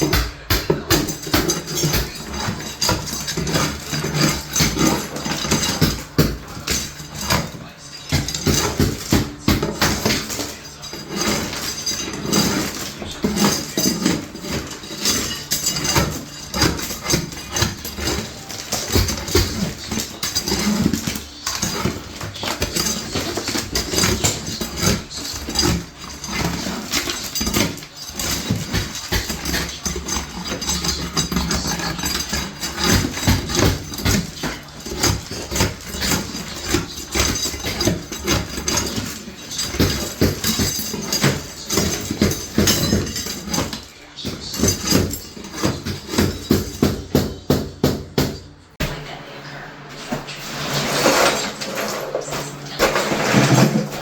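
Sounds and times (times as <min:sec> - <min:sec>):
demolition knocks and clattering: 0:00.0 - 0:54.0.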